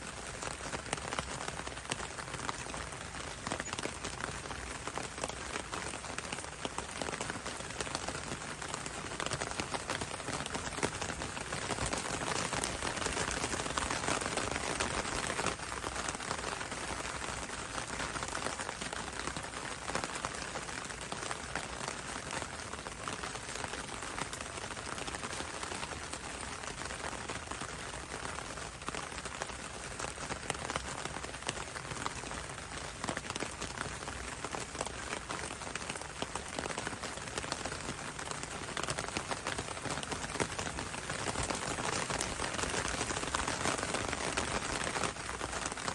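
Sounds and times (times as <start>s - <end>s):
rain pattering on leaves: 0.0s - 45.9s.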